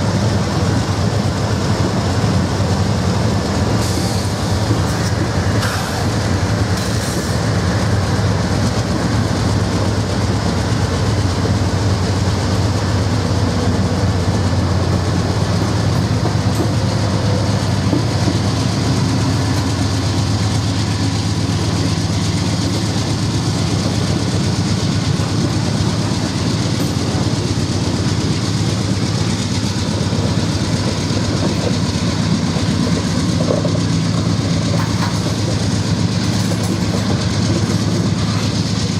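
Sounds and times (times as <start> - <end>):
freight train wheels on rail: 0.0 - 38.9.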